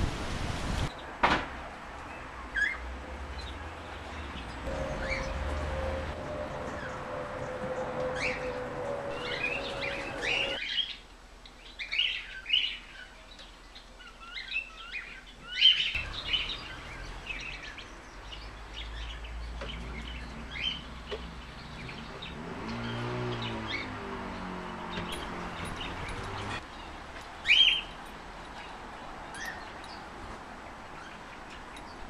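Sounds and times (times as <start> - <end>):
small birds chirping: 2.0 - 32.0.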